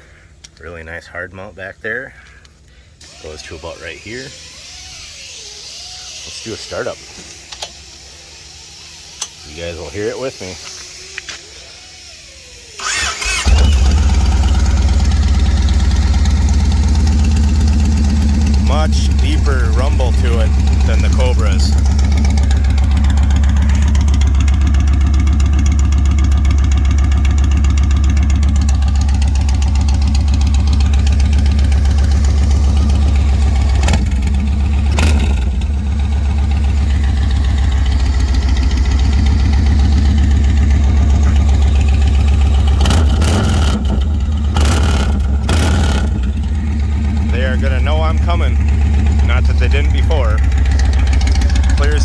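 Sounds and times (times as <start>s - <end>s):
motorcycle engine idling: 3.7s - 52.0s.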